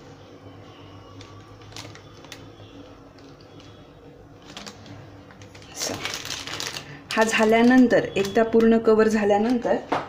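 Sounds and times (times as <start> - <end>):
low steady hum: 0.0 - 10.0
plastic sheet crinkling: 1.0 - 9.9.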